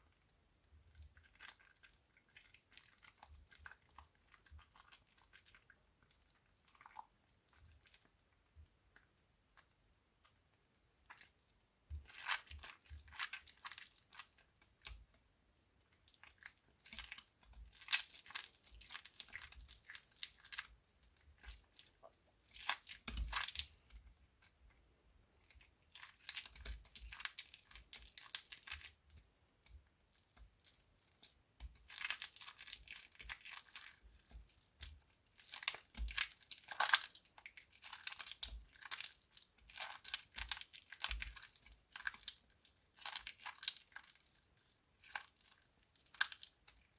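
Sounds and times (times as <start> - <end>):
soap crackling and crunching: 0.9 - 8.2, 11.0 - 15.2, 15.8 - 24.6, 25.4 - 46.9.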